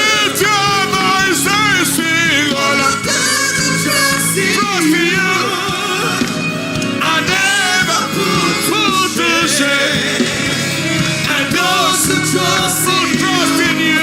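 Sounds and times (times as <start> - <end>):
gospel singing with band: 0.0 - 14.0.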